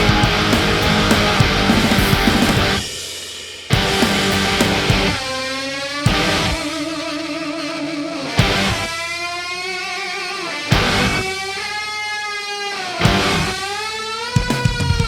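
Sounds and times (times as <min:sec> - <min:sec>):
rock music with electric guitar: 0:00.0 - 0:03.1, 0:03.7 - 0:15.0.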